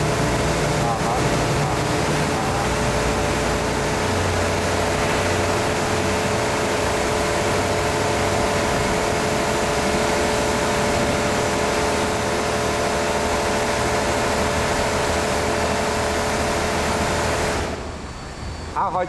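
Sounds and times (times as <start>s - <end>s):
machinery motor hum: 0.0s - 19.0s.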